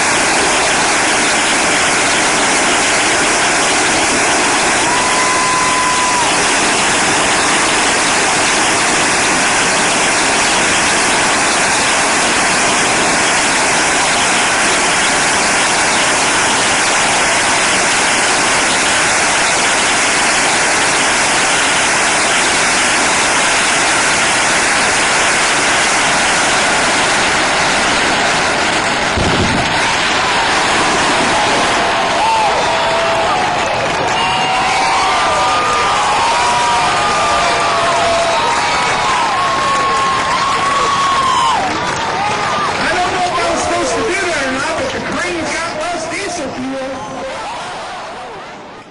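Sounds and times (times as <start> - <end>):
firecrackers crackling: 0.0 - 47.4.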